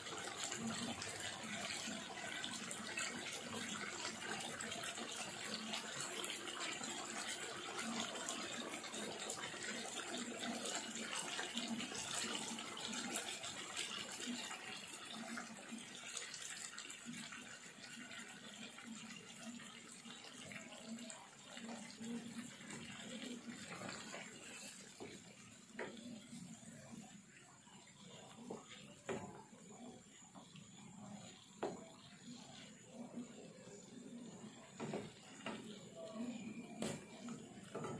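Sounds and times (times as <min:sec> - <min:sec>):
liquid pouring into a pan: 0:00.0 - 0:33.0
sauce bubbling and sizzling in a pan: 0:00.0 - 0:37.9.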